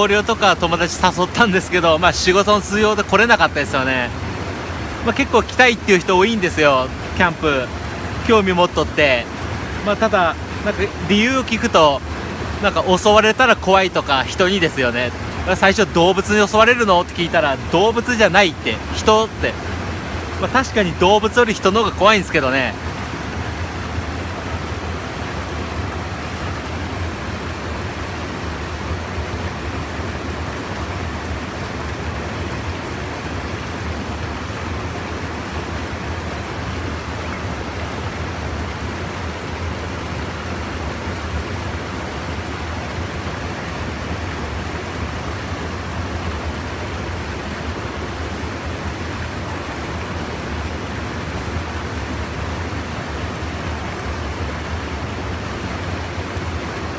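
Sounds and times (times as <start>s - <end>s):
water rushing over small dam: 0.0s - 56.9s.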